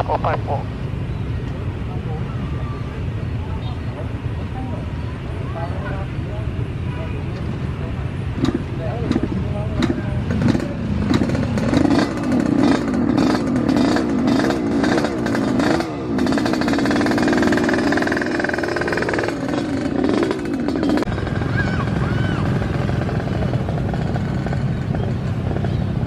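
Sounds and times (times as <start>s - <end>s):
engine running unevenly: 1.4s - 26.0s.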